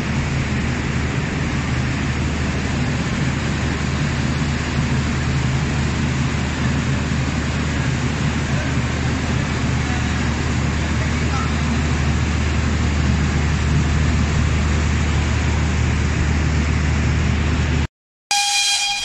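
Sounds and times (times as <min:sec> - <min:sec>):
steam train rumble: 0:00.0 - 0:19.0.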